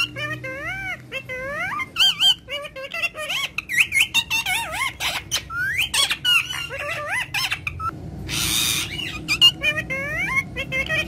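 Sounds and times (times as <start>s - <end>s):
parakeet chattering and squawking: 0.0s - 11.0s.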